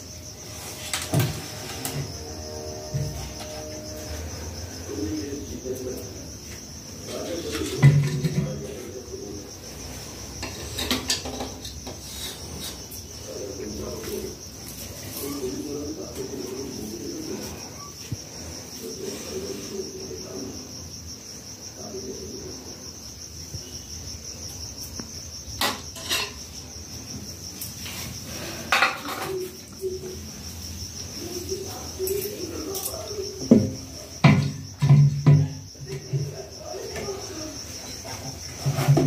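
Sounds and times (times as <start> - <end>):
cricket trilling: 0.0 - 39.0.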